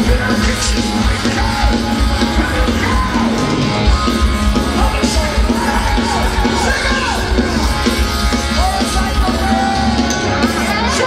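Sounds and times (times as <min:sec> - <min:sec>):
live heavy metal band: 0:00.0 - 0:11.0
singer's lead vocal: 0:00.0 - 0:11.0.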